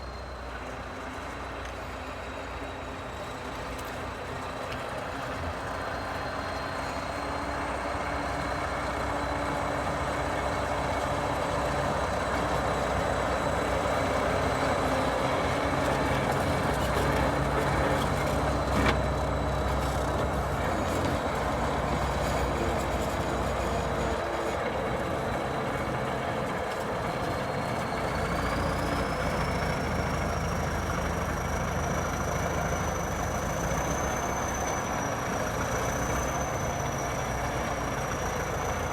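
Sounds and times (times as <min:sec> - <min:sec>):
diesel tractor engine: 0:00.0 - 0:38.9.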